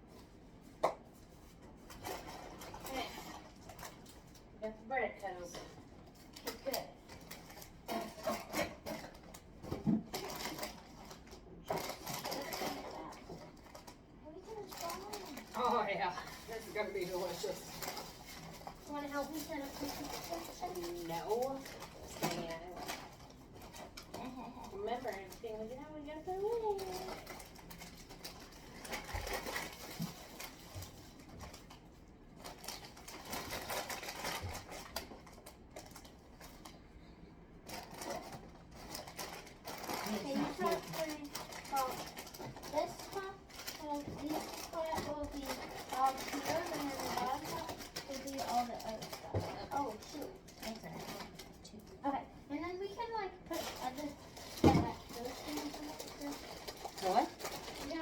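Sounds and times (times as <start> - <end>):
rustling of things being handled: 0.0 - 58.0.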